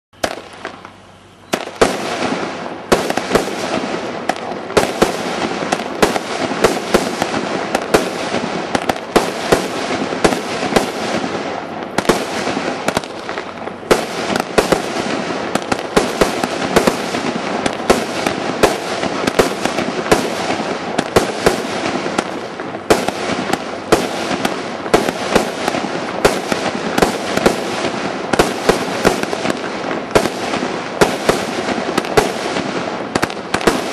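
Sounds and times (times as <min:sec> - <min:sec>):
continuous hiss: 0:00.1 - 0:33.9
firework fuse fizzing: 0:00.2 - 0:33.9
firework cake bangs: 0:01.5 - 0:33.9.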